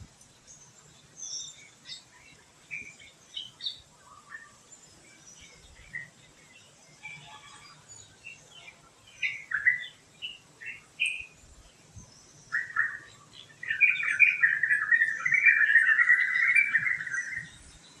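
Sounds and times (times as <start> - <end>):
birds chirping and warbling: 0.0 - 18.0.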